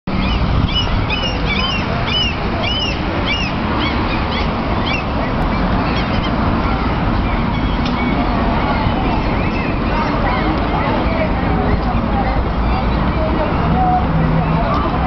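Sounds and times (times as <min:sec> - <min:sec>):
birds calling: 0:00.1 - 0:14.9.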